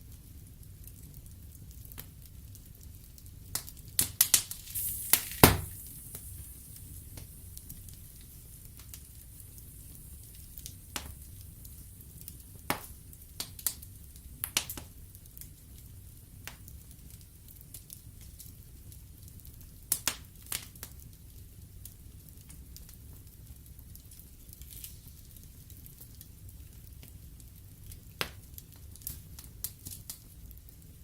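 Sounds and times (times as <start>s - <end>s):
wood fire crackling: 0.0s - 31.0s
fire hiss: 2.1s - 19.2s, 21.8s - 30.8s.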